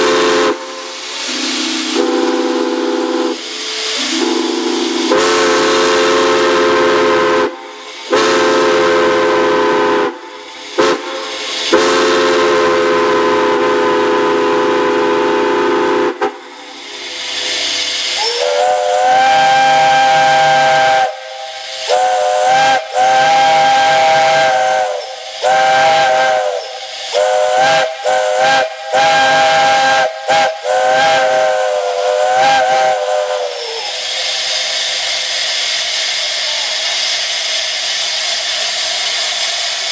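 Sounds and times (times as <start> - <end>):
steam locomotive chime whistle: 0.0 - 10.2, 10.8 - 16.2, 18.2 - 37.1
hissing steam: 0.0 - 39.9.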